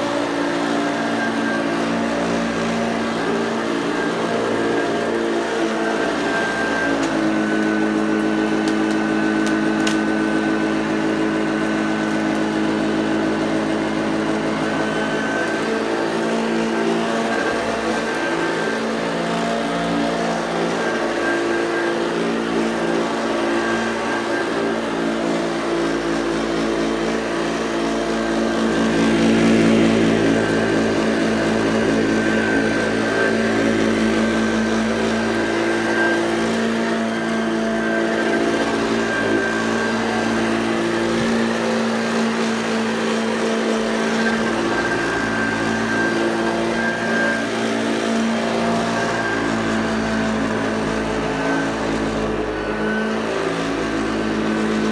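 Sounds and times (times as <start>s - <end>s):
upright vacuum cleaner running: 0.0s - 54.9s.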